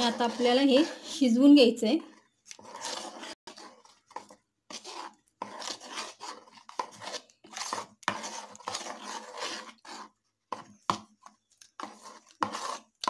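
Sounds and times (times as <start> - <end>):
metal spoon scraping a metal bowl: 0.0 - 10.7, 11.8 - 13.0.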